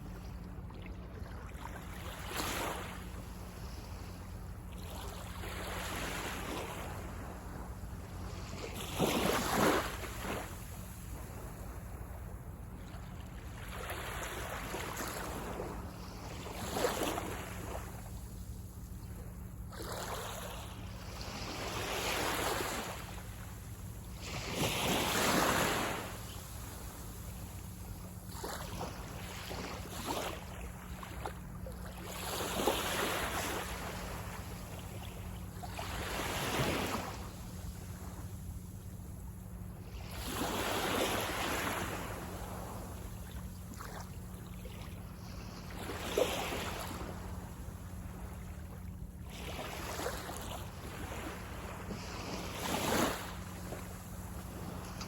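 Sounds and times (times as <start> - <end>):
sea waves breaking on beach: 1.2 - 55.0.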